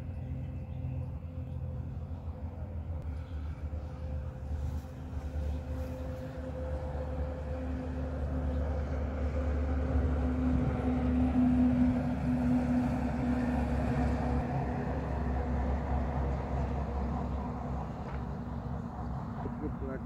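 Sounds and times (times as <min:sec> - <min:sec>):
low rumble: 0:00.0 - 0:20.0
vehicle engine hum: 0:00.0 - 0:20.0.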